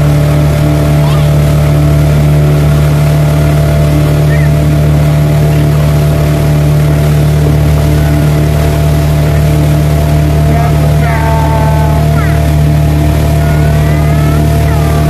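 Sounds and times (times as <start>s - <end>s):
speedboat engine running: 0.0s - 15.0s.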